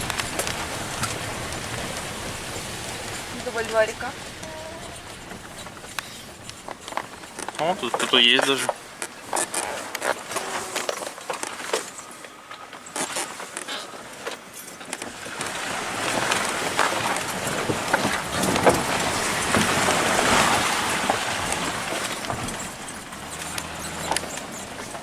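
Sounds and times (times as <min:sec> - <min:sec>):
car driving on bumpy road: 0:00.0 - 0:25.0.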